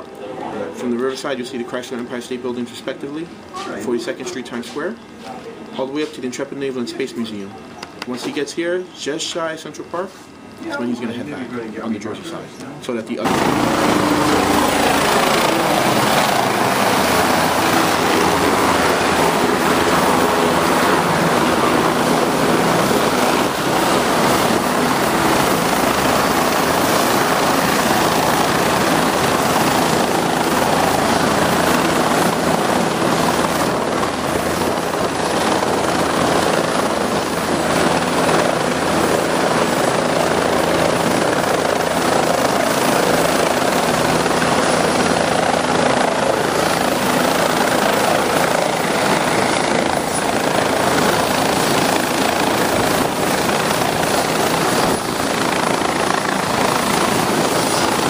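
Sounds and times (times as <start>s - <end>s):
helicopter rotor and turbine rush: 0.0s - 58.0s.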